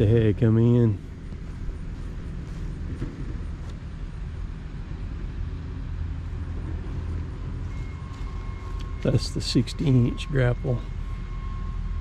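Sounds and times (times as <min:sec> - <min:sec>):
generator droning: 0:00.0 - 0:12.0.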